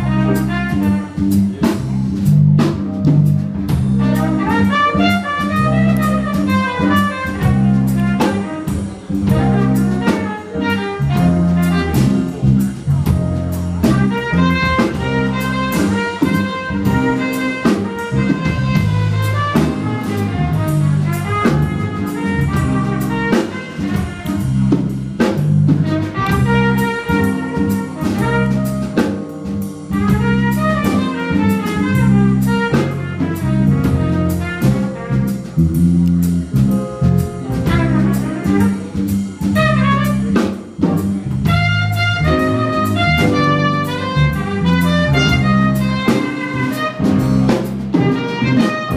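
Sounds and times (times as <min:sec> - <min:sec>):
jazz band playing: 0:00.0 - 0:48.9.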